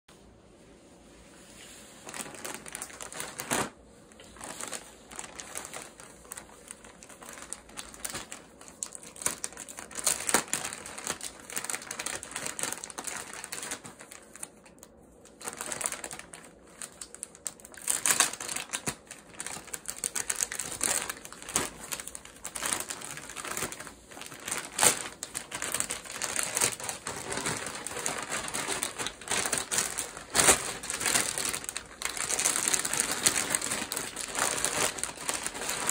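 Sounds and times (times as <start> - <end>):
plastic mailer bag crinkling: 2.0 - 35.9.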